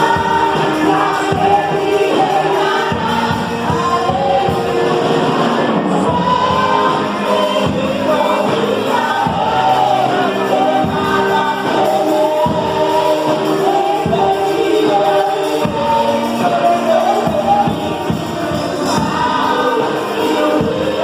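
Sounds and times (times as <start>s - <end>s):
bass: 0.0s - 21.0s
people singing: 0.0s - 21.0s.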